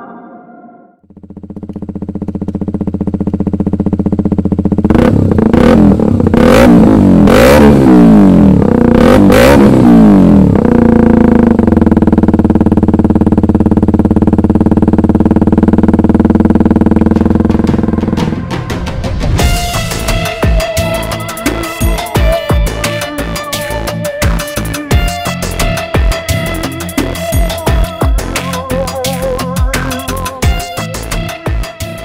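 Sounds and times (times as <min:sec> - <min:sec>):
motorcycle engine idling and revving: 0:01.0 - 0:32.0.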